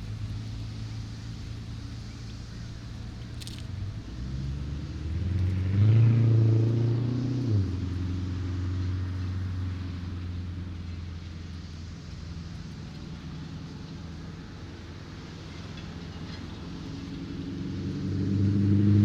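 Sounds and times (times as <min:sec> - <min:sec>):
low traffic rumble: 0:00.0 - 0:19.0
vehicle engine passing: 0:00.0 - 0:19.0.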